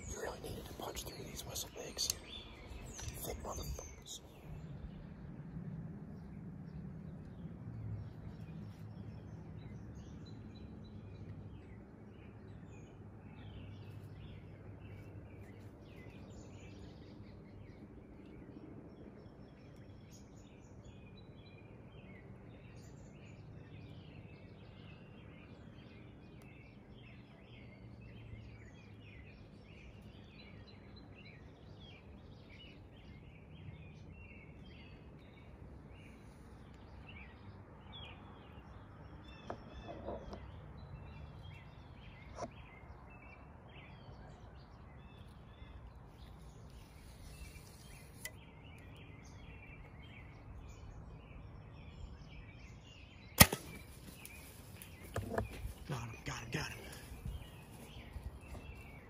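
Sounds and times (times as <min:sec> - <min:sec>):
low steady background rumble: 0:00.0 - 0:59.0
small birds chirping: 0:00.0 - 0:59.0.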